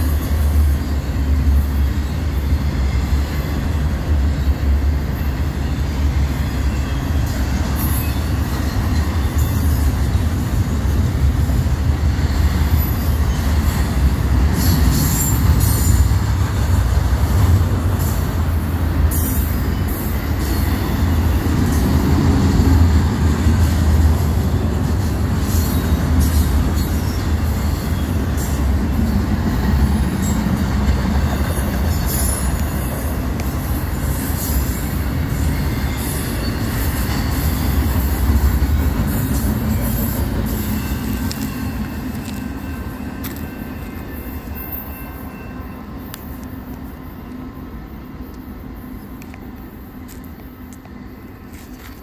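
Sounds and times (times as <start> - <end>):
train clanks: 0.0 - 52.0
train wheels rumbling on rail: 0.0 - 52.0.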